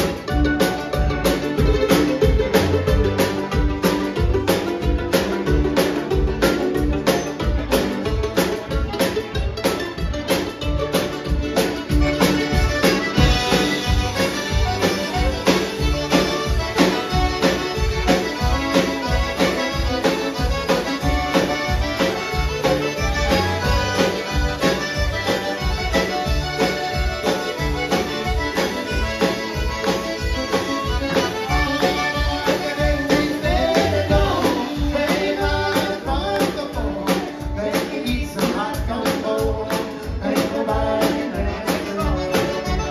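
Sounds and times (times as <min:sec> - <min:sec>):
accordion: 0:00.0 - 0:42.9
live country band music: 0:00.0 - 0:42.9.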